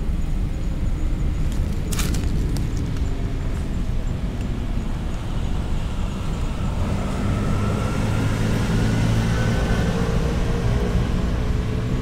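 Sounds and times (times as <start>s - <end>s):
city traffic rumble: 0.0s - 12.0s
faint engine drone: 0.0s - 12.0s.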